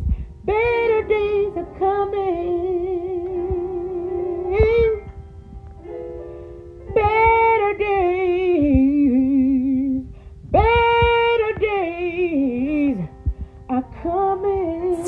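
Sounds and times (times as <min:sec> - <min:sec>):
woman singing wordless melody: 0:00.5 - 0:05.0, 0:07.0 - 0:15.0.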